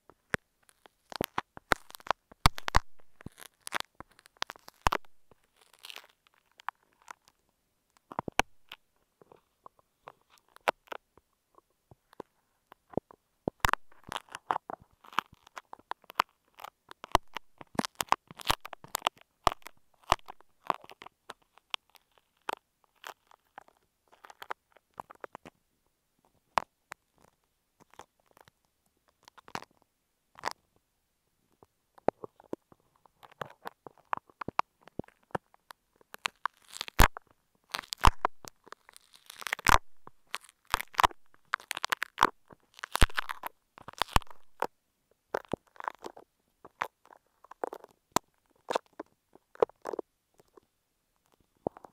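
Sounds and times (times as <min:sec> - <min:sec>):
crackling of beads picked apart: 0:00.6 - 0:11.0, 0:12.1 - 0:25.5, 0:29.1 - 0:29.8, 0:32.0 - 0:44.7, 0:45.3 - 0:50.6.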